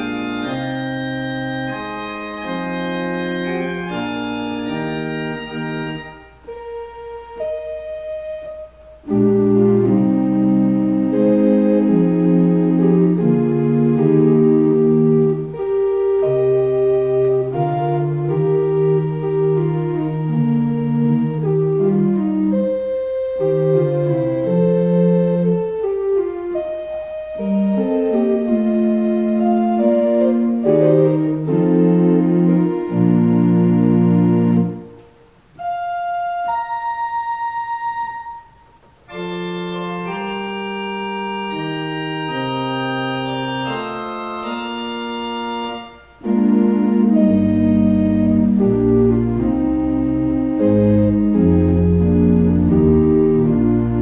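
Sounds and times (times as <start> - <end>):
low bass notes: 0.0 - 34.9, 39.2 - 54.0
organ playing slow chords: 0.0 - 54.0.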